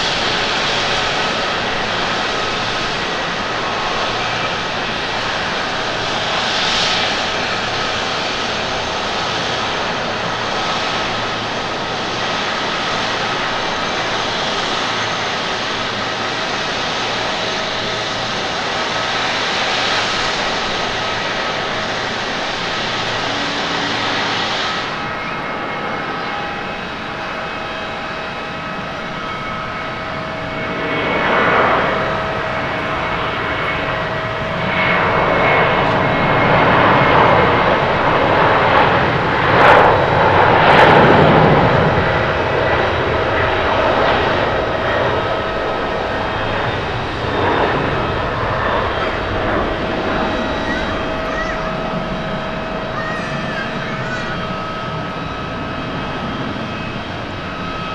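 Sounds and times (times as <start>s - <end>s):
jet climbing away: 0.0s - 57.9s
jet engines at takeoff: 0.0s - 57.9s.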